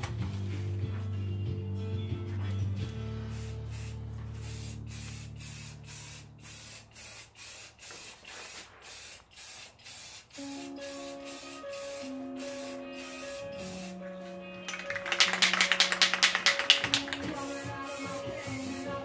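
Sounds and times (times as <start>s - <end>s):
spray paint can hissing bursts: 3.2s - 19.0s.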